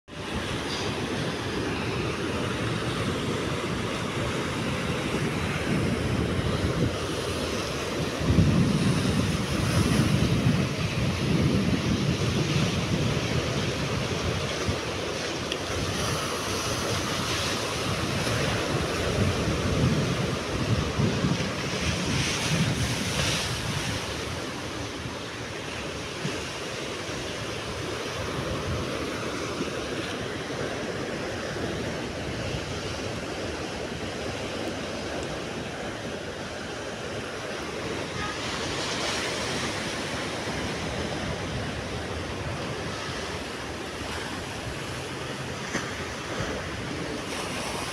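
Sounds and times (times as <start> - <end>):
wind buffeting microphone: 0.1 - 47.9.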